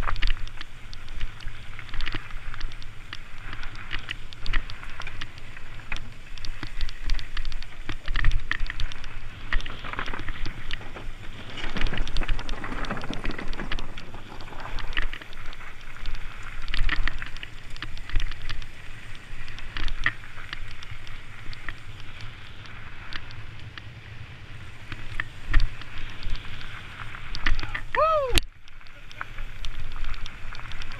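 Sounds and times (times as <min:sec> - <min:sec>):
bike clicking and rattling: 0:00.0 - 0:30.9
bike tyres crunching on dirt: 0:00.0 - 0:30.9.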